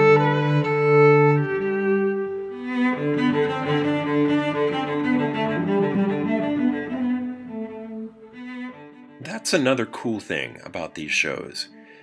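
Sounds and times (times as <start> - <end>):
bowed strings playing low melody: 0.0 - 12.0.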